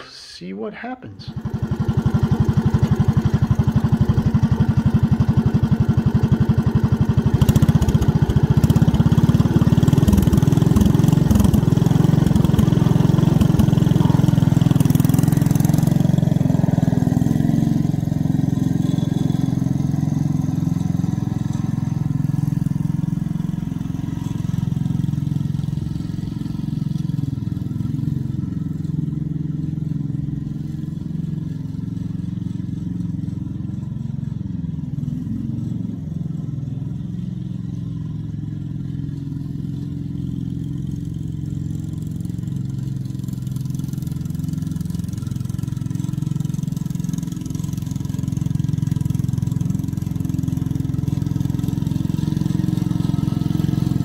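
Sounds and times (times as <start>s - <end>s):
single-cylinder engine running: 1.2s - 54.0s.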